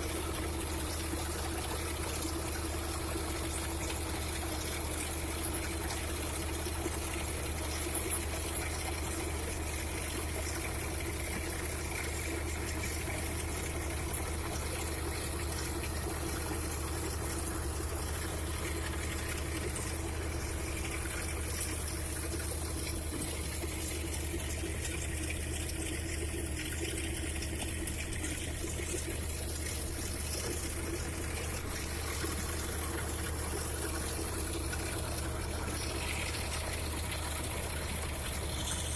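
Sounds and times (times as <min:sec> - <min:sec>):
trencher engine hum: 0:00.0 - 0:38.9.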